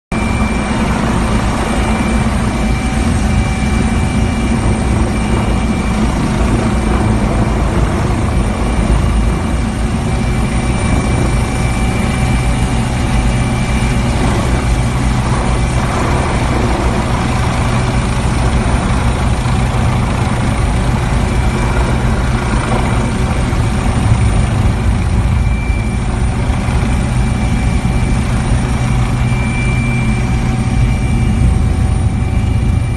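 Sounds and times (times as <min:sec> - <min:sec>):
helicopter rotor and engine: 0:00.1 - 0:32.9
high whine: 0:00.1 - 0:32.9.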